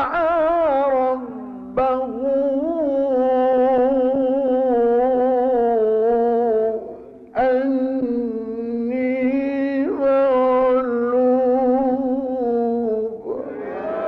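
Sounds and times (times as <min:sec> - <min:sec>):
man chanting recitation: 0:00.0 - 0:13.8.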